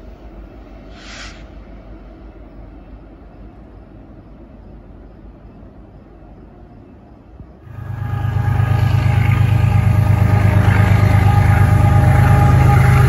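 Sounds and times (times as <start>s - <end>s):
diesel locomotive passing: 0.0s - 13.0s.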